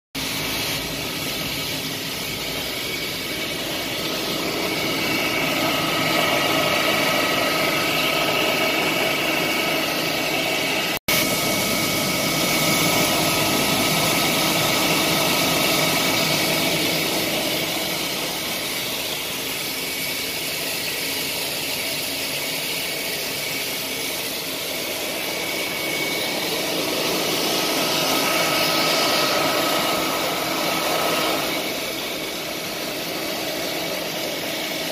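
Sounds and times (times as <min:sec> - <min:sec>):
grain loader machine drone: 0:00.2 - 0:34.9.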